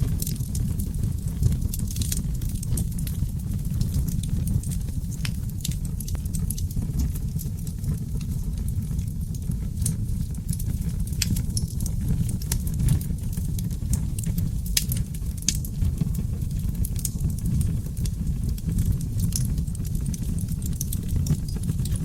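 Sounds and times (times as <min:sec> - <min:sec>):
low rumble of flames: 0:00.0 - 0:22.0
logs crackling and popping: 0:00.1 - 0:22.0.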